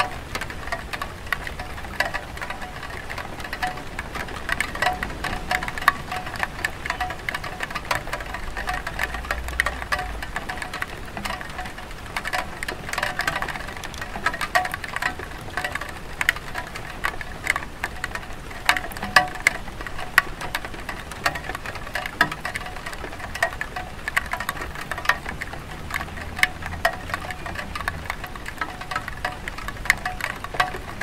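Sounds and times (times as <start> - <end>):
rain on a tile roof: 0.0 - 31.0
raindrop taps: 0.0 - 31.0.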